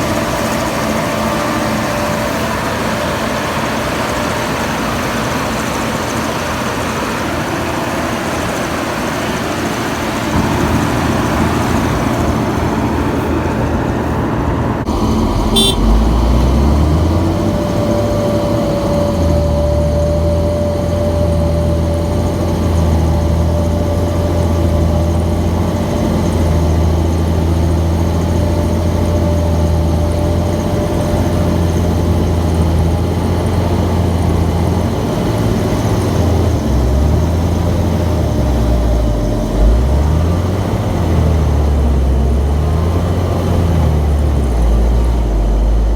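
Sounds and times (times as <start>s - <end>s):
steady machine whine: 0.0s - 43.0s
diesel farm machinery running: 0.0s - 45.9s.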